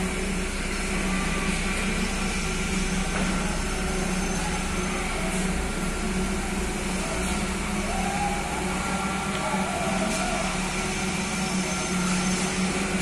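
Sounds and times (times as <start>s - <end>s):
heavy machinery engines droning: 0.0s - 13.0s.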